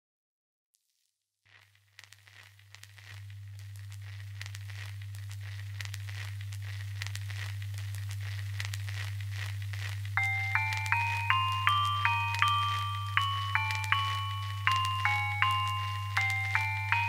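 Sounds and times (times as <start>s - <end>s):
vinyl record crackling: 0.8s - 17.0s
low hum: 3.2s - 17.0s.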